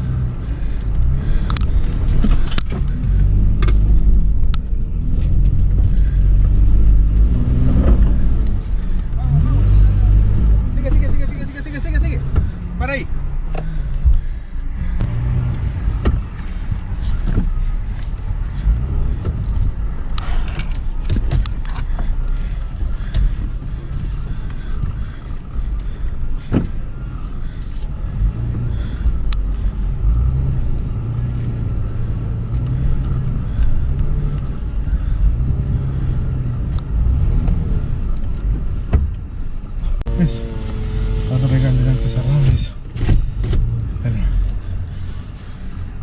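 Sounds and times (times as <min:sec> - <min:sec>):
car engine running low: 0:00.0 - 0:46.0.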